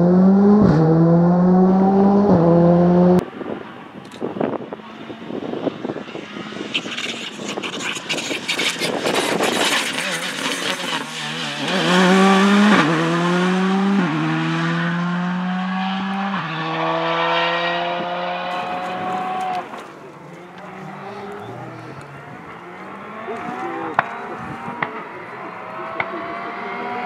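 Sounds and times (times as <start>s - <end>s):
rally car engine accelerating: 0.0s - 3.3s, 5.0s - 27.0s.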